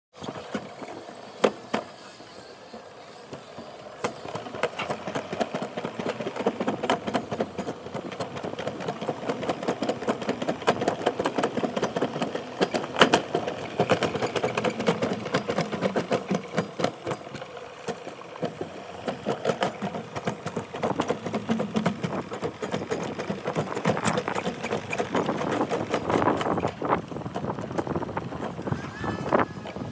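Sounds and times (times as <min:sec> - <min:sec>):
sled rattling down metal track: 0:00.1 - 0:29.9.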